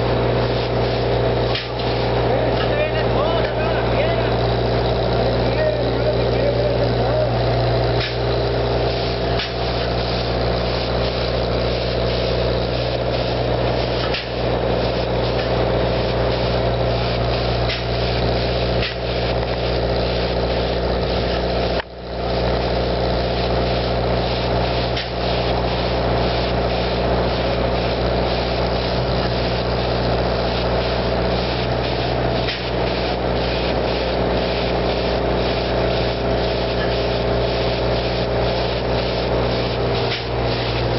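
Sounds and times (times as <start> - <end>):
large engine running: 0.0 - 40.9.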